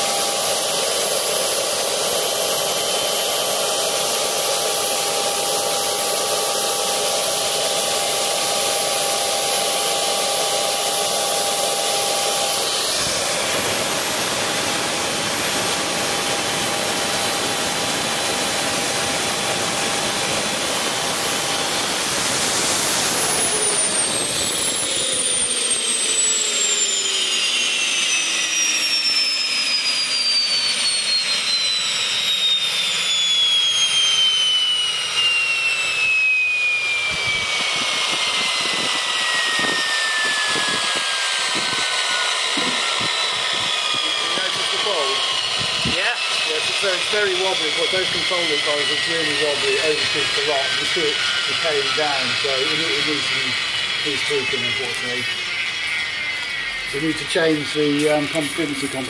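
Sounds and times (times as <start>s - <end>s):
gas turbine whine: 0.0s - 59.0s.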